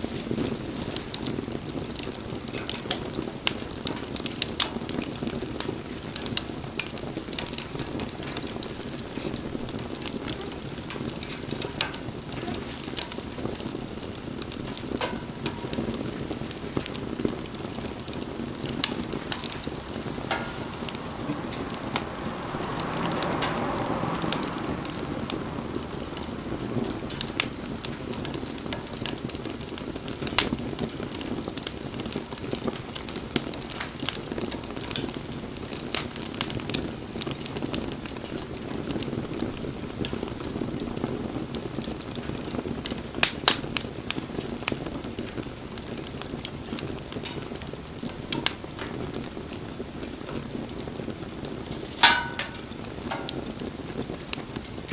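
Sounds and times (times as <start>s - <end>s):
campfire crackling and popping: 0.0s - 54.9s
fire hissing: 0.0s - 54.9s.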